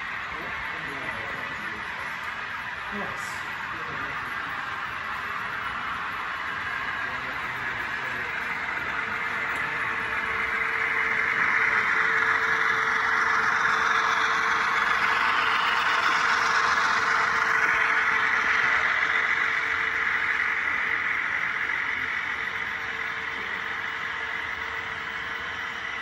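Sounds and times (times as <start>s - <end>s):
model train engine hum: 0.0s - 26.0s.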